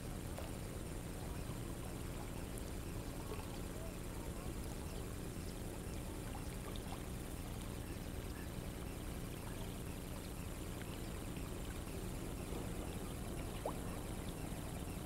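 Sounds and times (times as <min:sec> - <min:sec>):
faint ticks and chirps: 0:00.0 - 0:15.0
river water lapping: 0:00.0 - 0:15.0.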